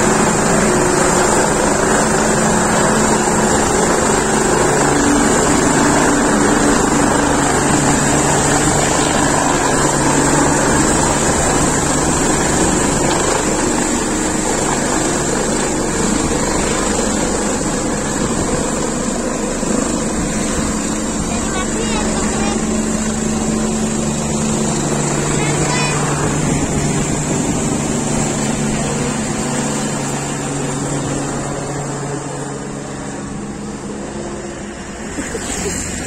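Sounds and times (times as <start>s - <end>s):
helicopter rotor churning: 0.0s - 36.0s
helicopter turbine whine: 0.0s - 36.0s.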